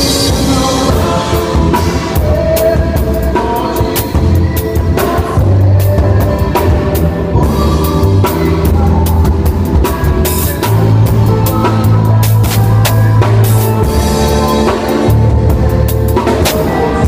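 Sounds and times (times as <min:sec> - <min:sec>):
bass line: 0:00.0 - 0:17.0
drum kit beat: 0:00.0 - 0:17.0.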